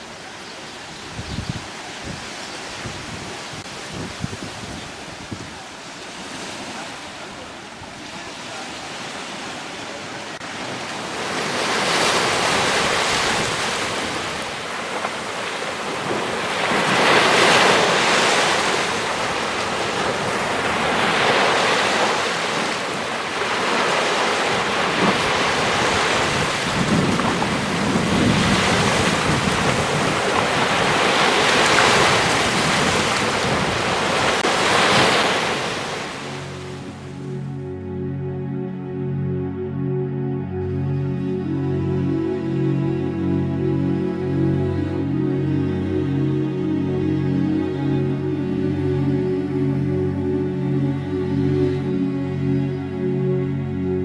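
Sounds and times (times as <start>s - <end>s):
waves washing in: 0.0s - 37.9s, 40.6s - 54.0s.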